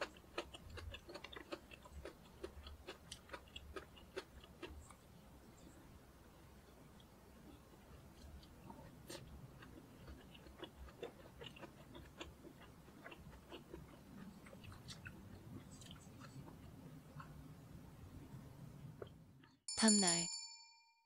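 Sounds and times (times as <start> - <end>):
chewing: 0.0 - 5.9, 6.5 - 19.2.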